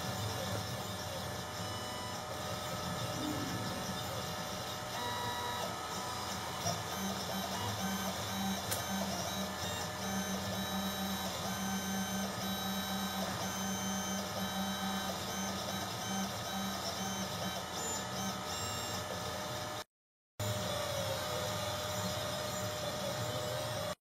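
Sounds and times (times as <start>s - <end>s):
stepper motors whining: 0.0s - 19.4s, 20.4s - 24.0s.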